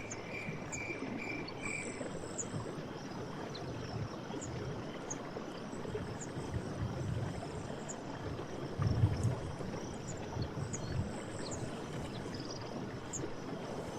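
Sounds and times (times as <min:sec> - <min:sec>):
forest stream gurgling: 0:00.0 - 0:13.9.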